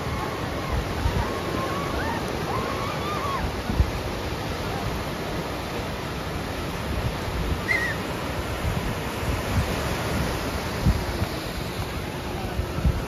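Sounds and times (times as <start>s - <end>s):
sea surf washing in: 0.0s - 13.0s.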